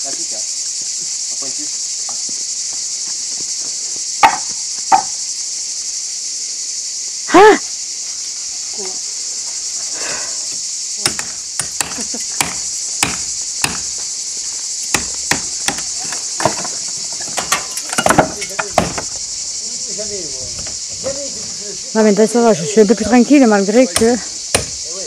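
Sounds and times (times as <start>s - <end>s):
shrill insect chorus: 0.0s - 25.0s.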